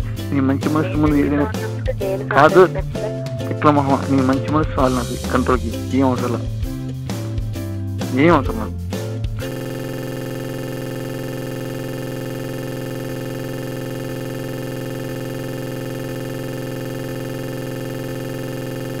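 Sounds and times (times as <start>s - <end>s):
steady buzzing drone: 0.0s - 19.0s.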